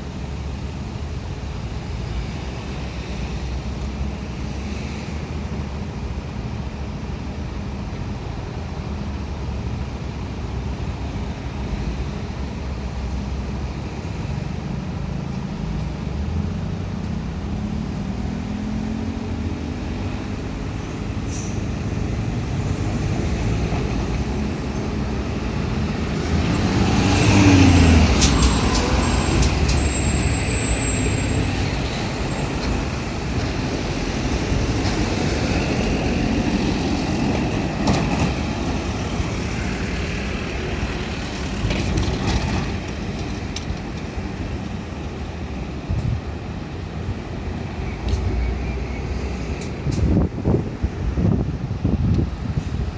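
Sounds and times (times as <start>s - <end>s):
diesel locomotive engine passing: 0.0s - 52.9s.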